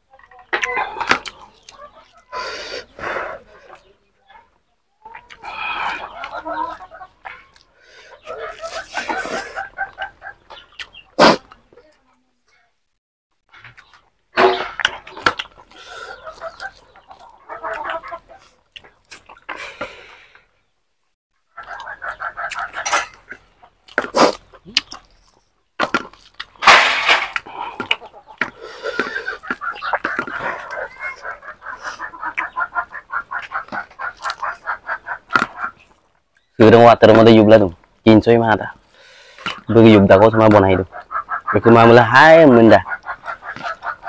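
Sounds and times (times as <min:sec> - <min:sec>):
chickens clucking: 0:00.0 - 0:12.7, 0:13.5 - 0:20.8, 0:21.5 - 0:44.0.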